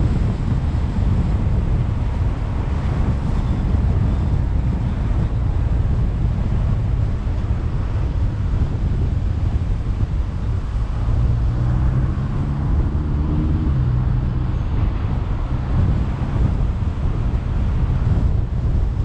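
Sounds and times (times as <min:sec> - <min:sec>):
car tyre and road noise: 0:00.0 - 0:19.0
wind buffeting microphone: 0:00.0 - 0:19.0.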